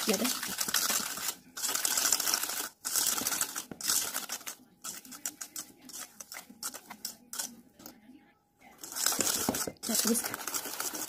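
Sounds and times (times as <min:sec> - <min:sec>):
whisk rattling against metal bowl: 0:00.0 - 0:07.5, 0:08.8 - 0:11.0.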